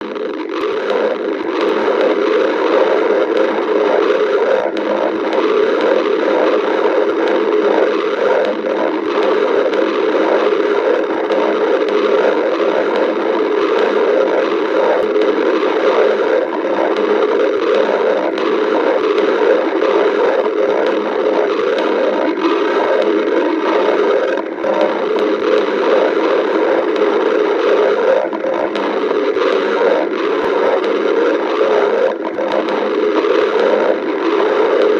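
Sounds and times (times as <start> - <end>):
stomach growling and gurgling: 0.0 - 34.9.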